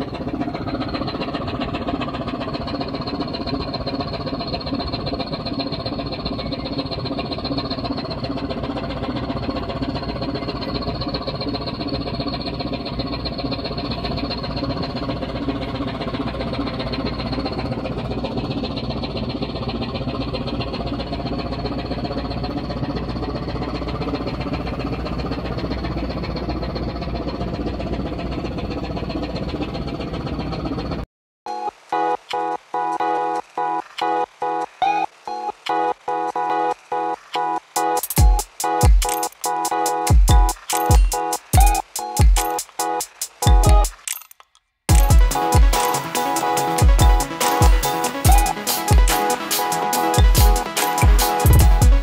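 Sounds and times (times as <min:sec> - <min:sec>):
diesel engine knocking: 0:00.0 - 0:31.0, 0:37.8 - 0:39.2, 0:39.8 - 0:44.0, 0:44.9 - 0:52.0.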